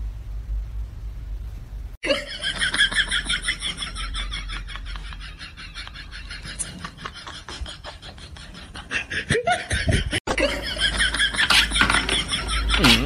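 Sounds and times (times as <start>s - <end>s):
person laughing: 2.0s - 13.0s.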